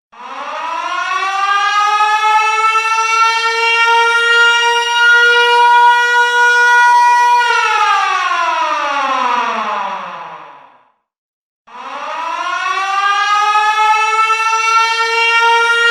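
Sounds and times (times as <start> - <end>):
air-raid siren wailing: 0.2 - 10.8, 11.7 - 15.9.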